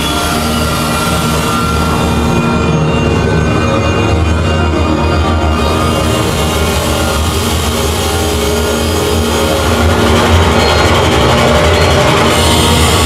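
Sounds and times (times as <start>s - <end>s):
loud electronic drone: 0.0s - 13.0s.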